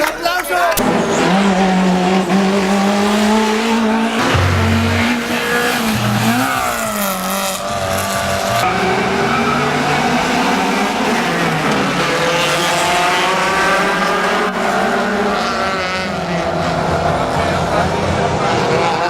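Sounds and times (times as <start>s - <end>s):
racing engine at high revs: 0.8s - 19.0s.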